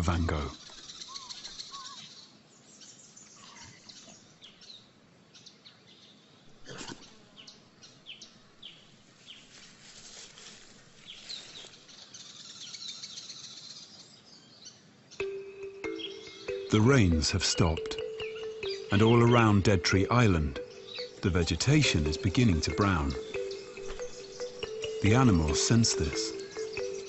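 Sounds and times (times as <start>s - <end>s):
birds chirping: 0.0s - 9.8s, 10.9s - 27.0s.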